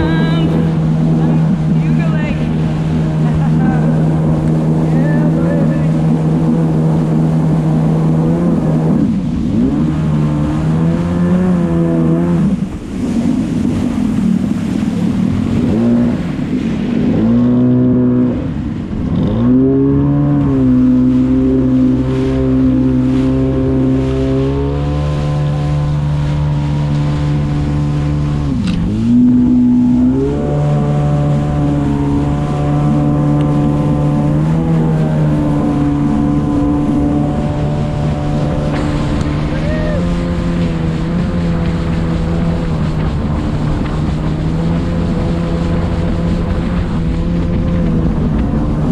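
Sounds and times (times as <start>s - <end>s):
jet ski engine running: 0.0s - 48.9s.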